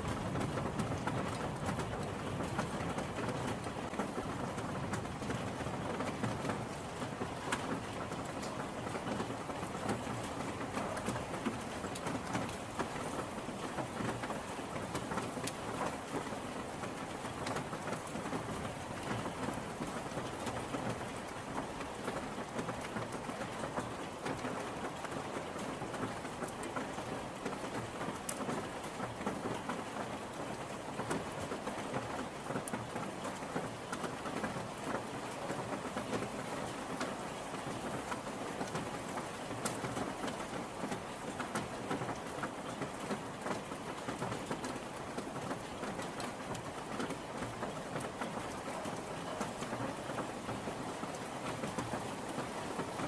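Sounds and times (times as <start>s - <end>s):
rain drops pattering: 0.0s - 53.0s.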